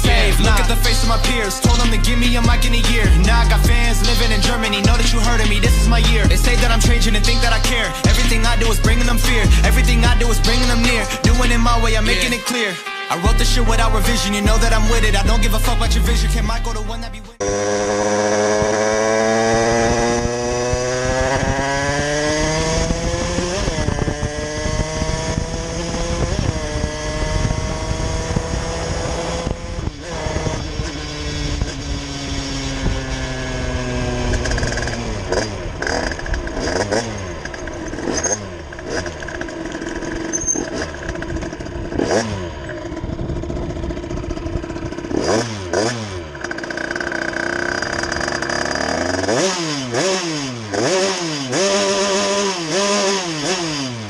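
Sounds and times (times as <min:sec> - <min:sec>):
two-stroke engine revving: 0:00.0 - 0:12.4, 0:13.3 - 0:54.0.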